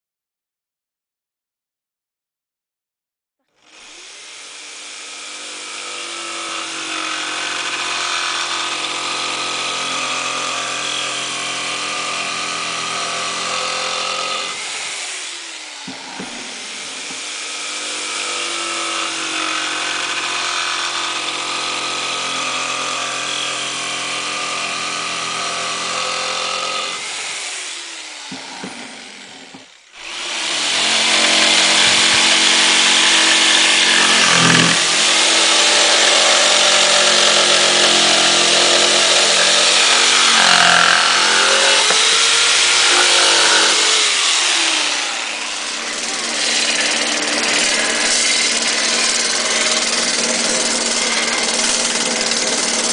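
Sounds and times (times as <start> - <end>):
electric jigsaw cutting wood: 3.5 - 52.9.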